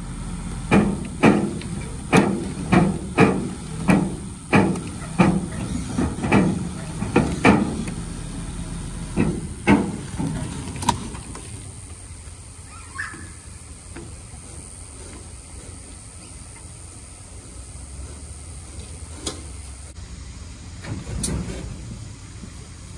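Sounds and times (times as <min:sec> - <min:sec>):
truck engine rumbling: 0:00.0 - 0:22.9.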